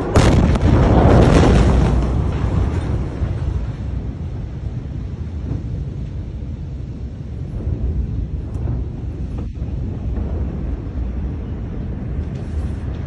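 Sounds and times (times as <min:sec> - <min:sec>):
debris crackling and clatter: 0:00.0 - 0:13.0
explosion rumble: 0:00.0 - 0:13.0.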